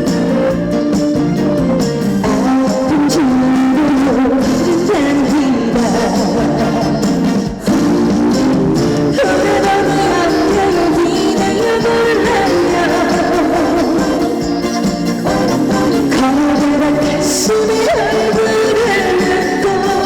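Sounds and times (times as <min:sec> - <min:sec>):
band playing trot song: 0:00.0 - 0:20.0.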